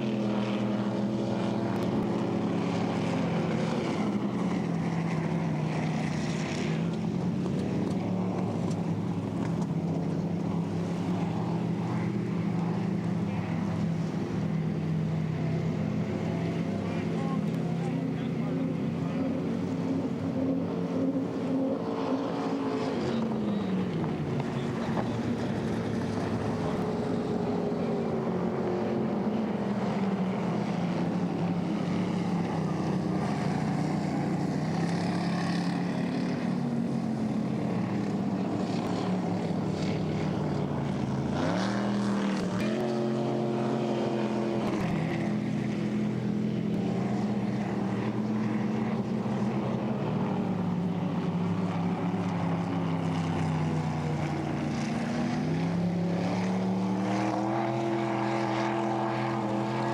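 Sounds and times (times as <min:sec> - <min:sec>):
racing boat engines running hard: 0:00.0 - 0:59.9.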